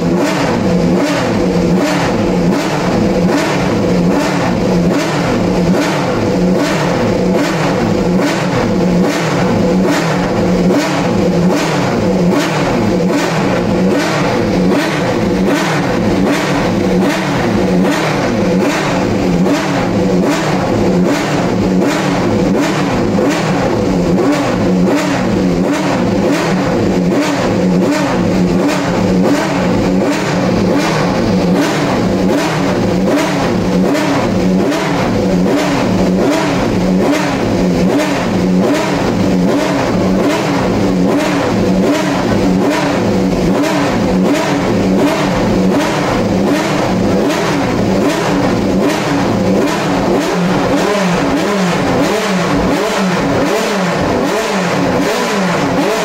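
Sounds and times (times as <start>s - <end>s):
racing engine lumpy idle: 0.0s - 56.0s.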